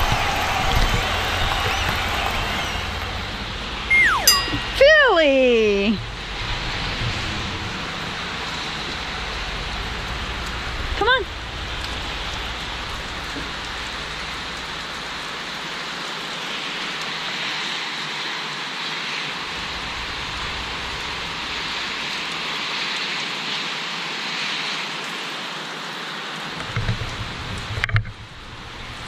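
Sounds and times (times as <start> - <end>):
steady rain falling: 0.0 - 3.9, 4.8 - 29.0.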